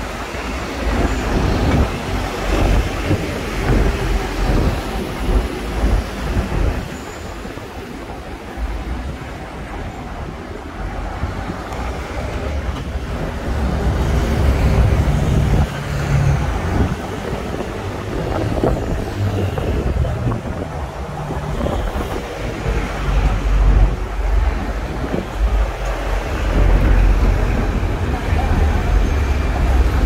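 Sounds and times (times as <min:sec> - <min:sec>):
road traffic: 0:00.0 - 0:30.0
tram rumbling on rails: 0:00.0 - 0:30.0.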